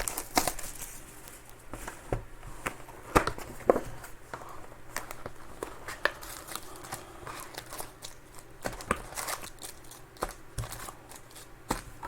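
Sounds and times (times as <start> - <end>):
card packs clicking and rustling: 0.0 - 12.0.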